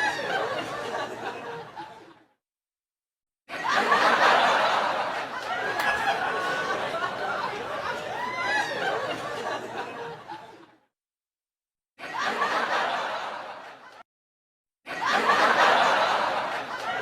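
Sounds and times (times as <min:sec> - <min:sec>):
group of people laughing: 0:00.0 - 0:02.4, 0:03.5 - 0:10.9, 0:12.0 - 0:14.0, 0:14.9 - 0:17.0.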